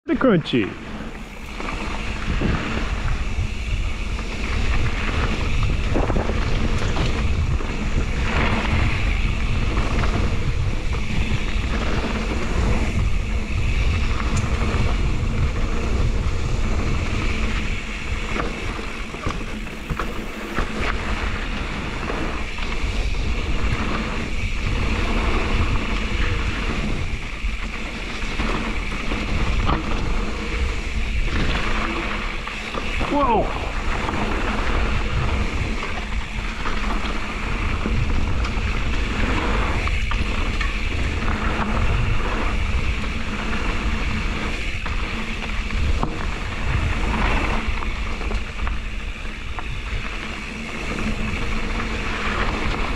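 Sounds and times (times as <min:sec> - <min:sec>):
wind rushing on microphone: 0:00.0 - 0:52.9
tyres rolling over dirt and stones: 0:00.5 - 0:52.9
bike knocks and rattles: 0:01.2 - 0:52.9.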